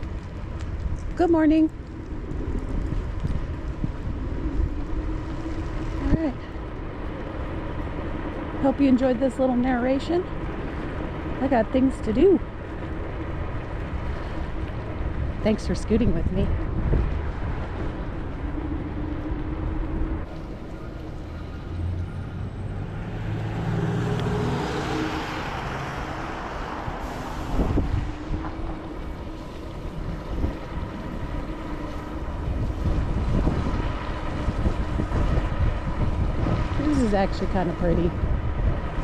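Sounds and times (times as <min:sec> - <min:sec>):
wheels rumbling on path: 0:00.0 - 0:39.0
wind rushing over microphone: 0:00.0 - 0:39.0.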